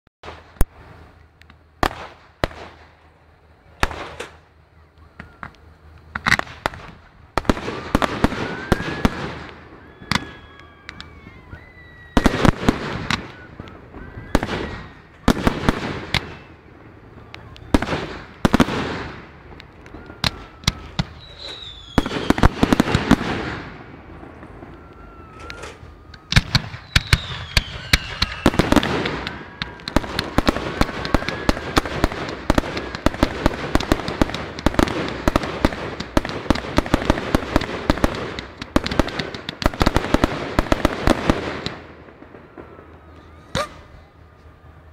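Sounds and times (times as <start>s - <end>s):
fireworks bangs and crackling: 0.2s - 44.9s.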